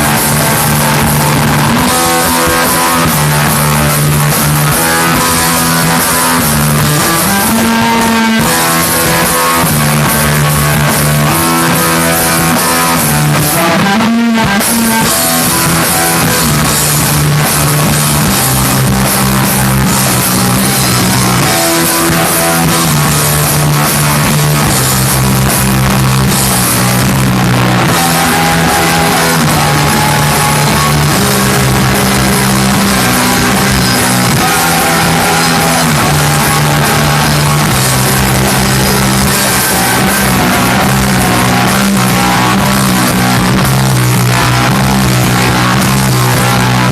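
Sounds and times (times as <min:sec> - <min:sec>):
loud rock band playing: 0:00.0 - 0:46.9.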